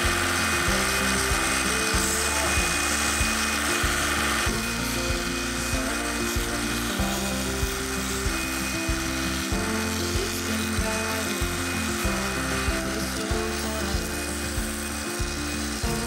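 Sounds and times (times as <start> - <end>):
background music with beat: 0.0 - 16.0
belt grinder hissing: 0.0 - 16.0.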